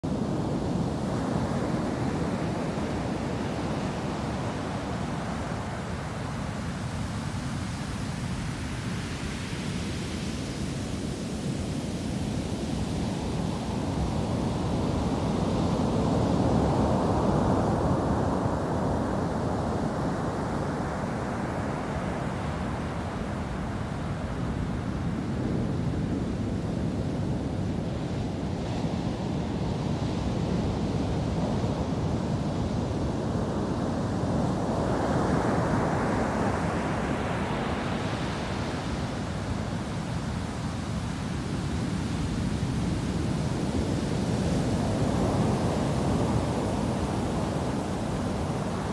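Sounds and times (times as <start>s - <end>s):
low rumble of the sea: 0.0s - 48.9s.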